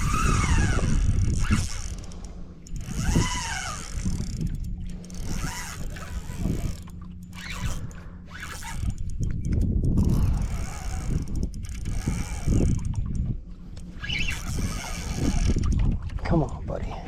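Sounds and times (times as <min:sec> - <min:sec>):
fishing reel whirring: 0:00.0 - 0:16.0.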